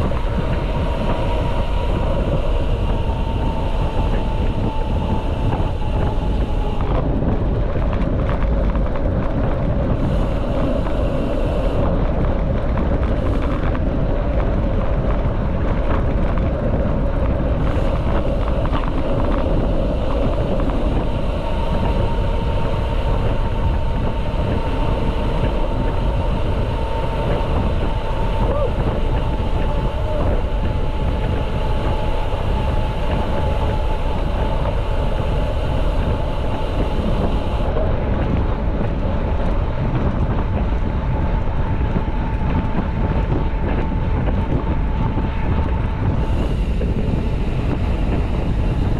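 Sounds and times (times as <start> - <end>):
bike tyres rolling: 0.0 - 48.9
steady hum: 0.0 - 48.9
wind buffeting microphone: 0.0 - 48.9.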